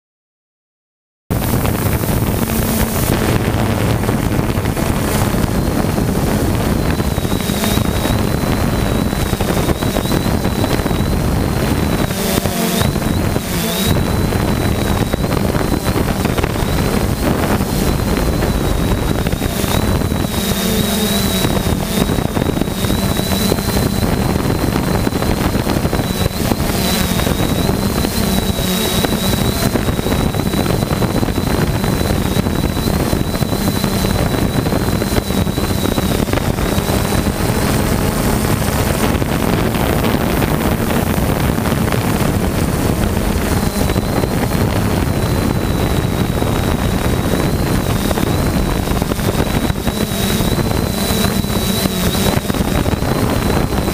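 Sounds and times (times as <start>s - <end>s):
drone motors high whine: 1.3s - 53.9s
wind noise on microphone: 1.3s - 53.9s.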